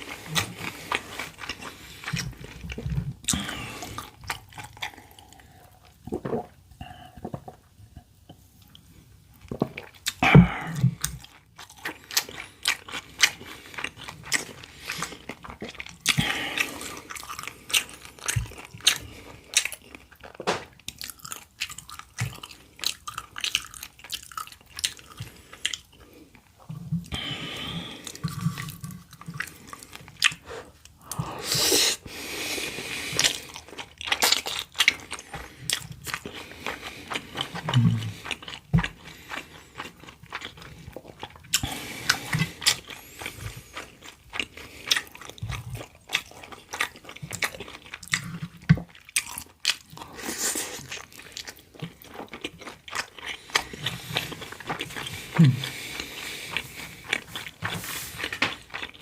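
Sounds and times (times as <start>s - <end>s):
person chewing crunchy food: 0.0s - 7.7s, 8.6s - 59.0s.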